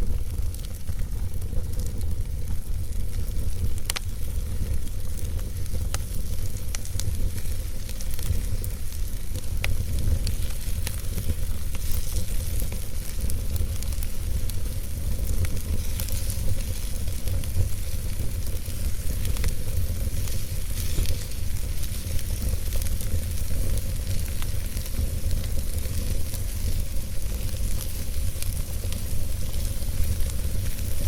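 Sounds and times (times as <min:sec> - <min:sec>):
fire crackling and hissing: 0:00.0 - 0:31.0
steady low rumble: 0:00.0 - 0:31.0.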